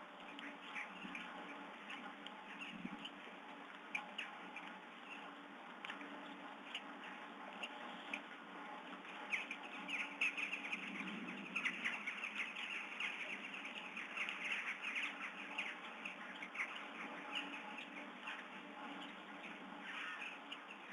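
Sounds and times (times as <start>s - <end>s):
faint steady hum: 0.0s - 20.9s
birds chirping and calling: 0.2s - 8.3s, 8.9s - 20.9s.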